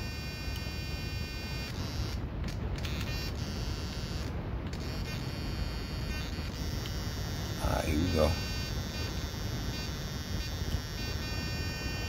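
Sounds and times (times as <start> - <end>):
electric buzz with hum and whine: 0.0 - 12.0.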